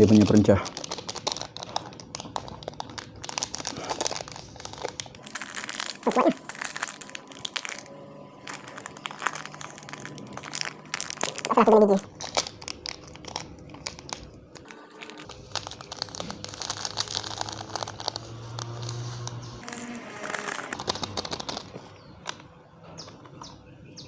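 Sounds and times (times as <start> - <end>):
plastic sachets crinkling and tearing: 0.0 - 22.5.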